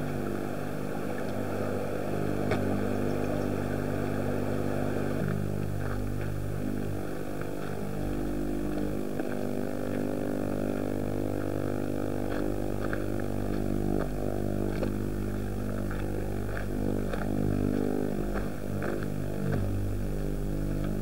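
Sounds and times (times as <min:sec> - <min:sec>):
car engine droning: 0:00.0 - 0:21.0.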